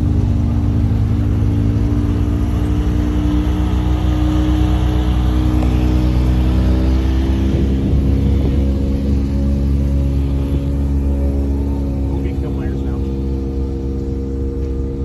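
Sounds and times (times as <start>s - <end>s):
tractor engine at high idle: 0.0s - 15.0s.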